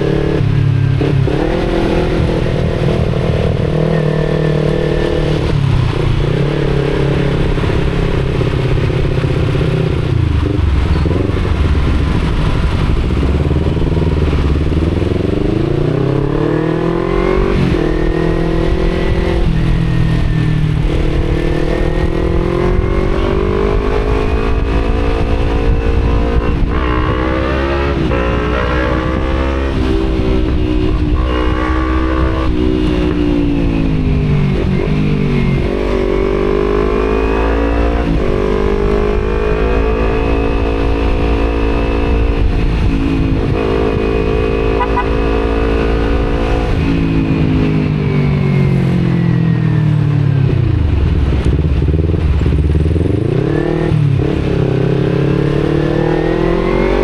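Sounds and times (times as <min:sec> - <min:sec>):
motorcycle engine shifting gears: 0:00.0 - 0:57.0
wind noise: 0:00.0 - 0:57.0.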